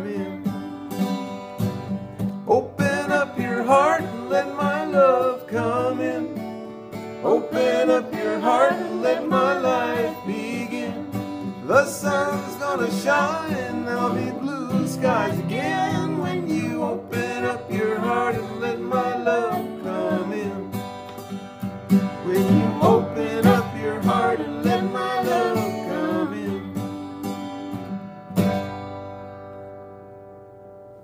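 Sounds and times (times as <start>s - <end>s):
person singing country song: 0.0s - 21.0s, 21.9s - 28.2s
acoustic guitar: 0.0s - 31.0s.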